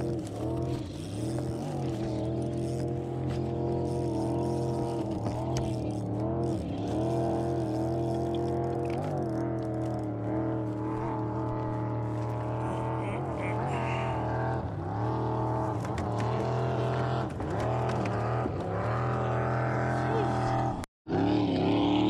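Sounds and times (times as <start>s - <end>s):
boat motor running: 0.0s - 22.0s.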